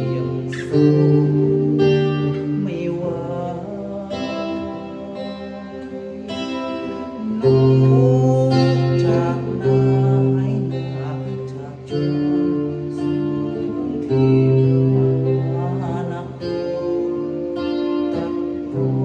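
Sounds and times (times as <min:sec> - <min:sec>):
instrumental music: 0:00.0 - 0:19.0.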